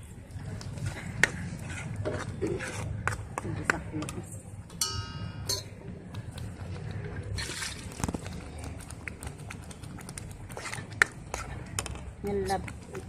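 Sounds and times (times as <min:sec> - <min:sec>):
low simmering rumble: 0:00.0 - 0:13.0.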